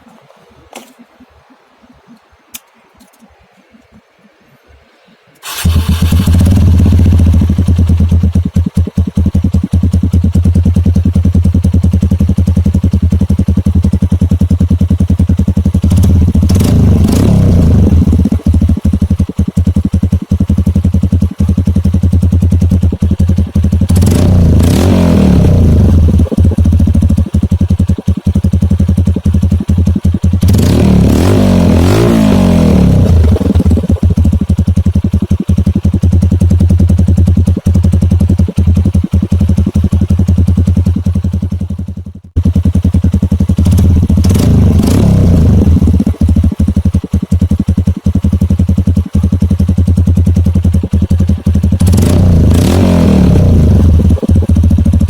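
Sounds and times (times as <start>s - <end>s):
motorcycle engine idling and revving: 5.4s - 55.0s.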